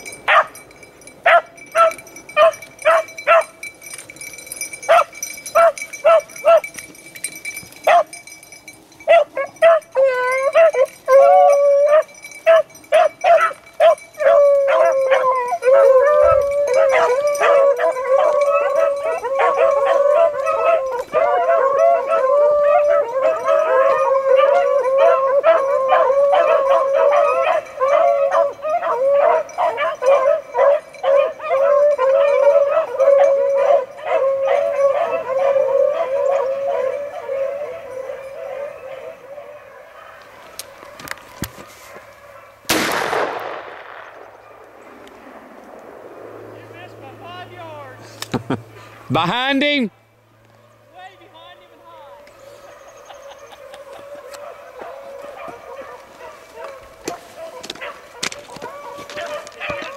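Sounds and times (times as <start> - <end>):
pack of dogs barking and baying: 0.0 - 42.7, 43.4 - 59.9.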